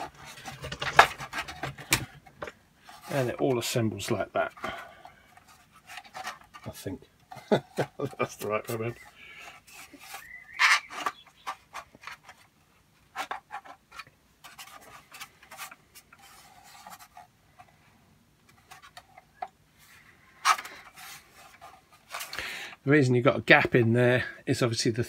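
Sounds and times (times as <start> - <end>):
plastic parts clicking and knocking: 0.0 - 17.8, 18.4 - 19.6, 20.4 - 22.4.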